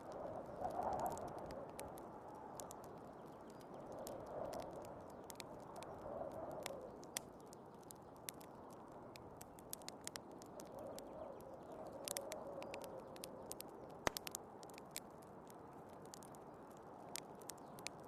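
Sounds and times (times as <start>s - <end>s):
howling storm wind: 0.0s - 18.0s
wood fire crackling and popping: 0.0s - 18.0s.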